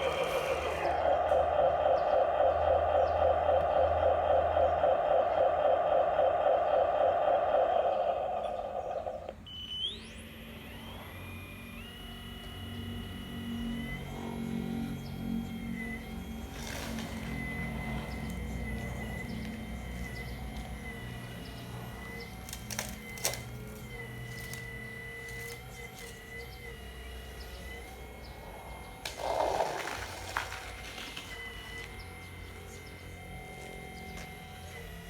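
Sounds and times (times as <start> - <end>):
hydraulic pump whine: 0.0 - 35.0.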